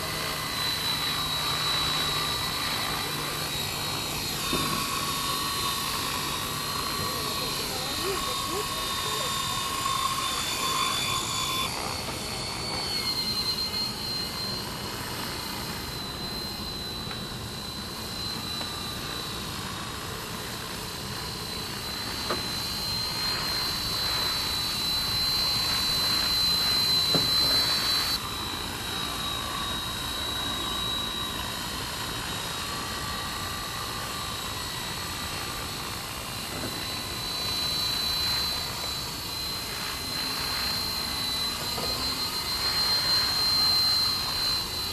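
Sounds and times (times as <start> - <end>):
rc helicopter motor whine: 0.0 - 44.9.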